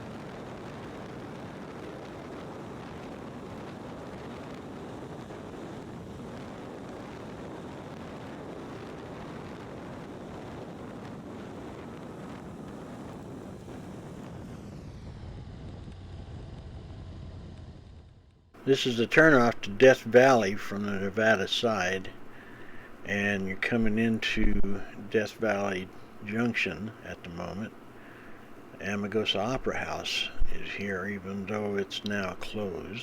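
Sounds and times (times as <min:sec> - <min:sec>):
wind rushing over microphone: 0:00.0 - 0:27.0, 0:27.6 - 0:33.0.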